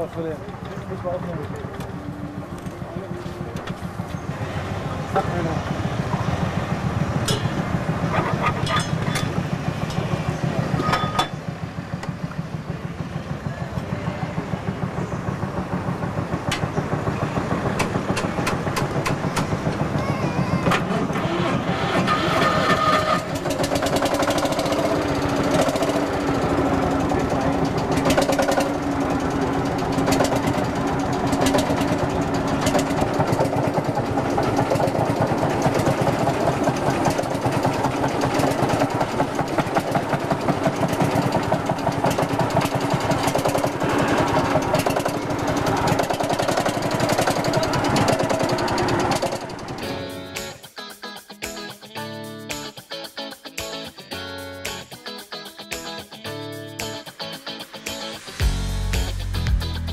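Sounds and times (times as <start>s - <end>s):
tractor engine running: 0.0s - 50.6s, 58.2s - 59.9s.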